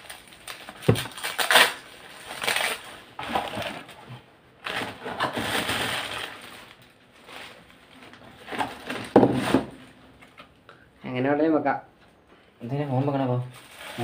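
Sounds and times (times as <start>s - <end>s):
plastic wrap crinkling: 0.0s - 10.3s, 13.0s - 14.0s.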